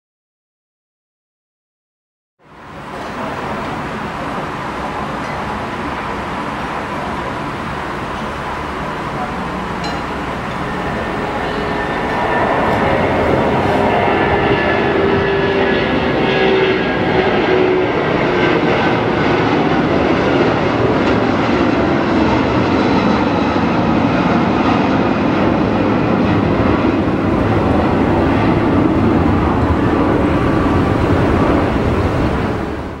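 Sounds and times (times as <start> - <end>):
jet engines at takeoff: 2.4 - 33.0.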